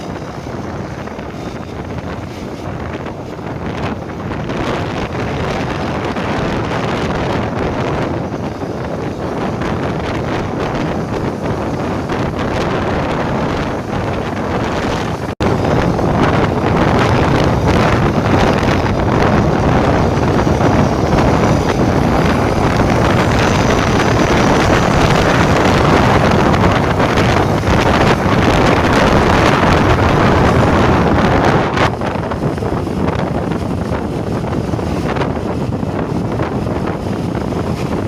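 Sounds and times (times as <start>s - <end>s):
bus road and engine noise: 0.0s - 38.0s
wind rushing over microphone: 0.0s - 38.0s.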